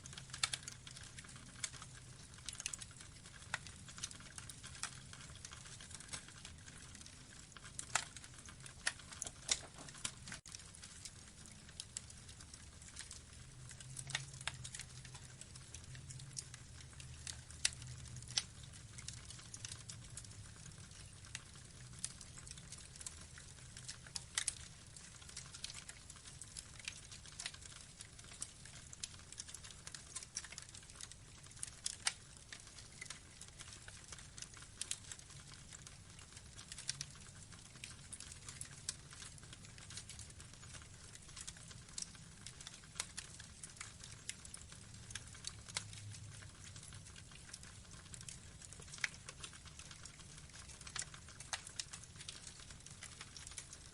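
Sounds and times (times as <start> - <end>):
burning logs crackling: 0.0 - 53.9
low rumble of flames: 0.0 - 53.9.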